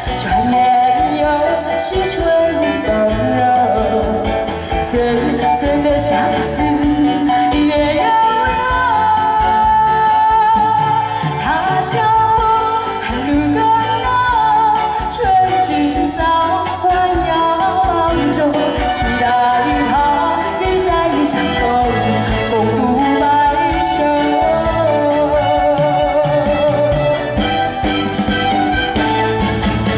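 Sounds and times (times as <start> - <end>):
woman singing into a microphone: 0.0 - 27.8
live band with keyboard: 0.0 - 29.9.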